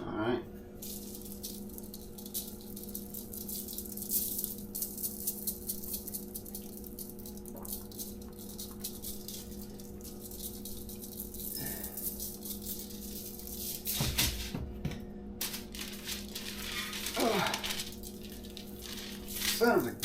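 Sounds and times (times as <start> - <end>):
spice shaker rattling: 0.8 - 14.5, 15.4 - 20.0.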